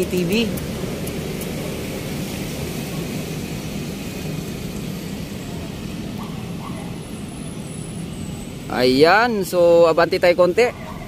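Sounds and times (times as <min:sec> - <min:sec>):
road traffic rumble: 0:00.0 - 0:11.0
wind: 0:00.0 - 0:11.0.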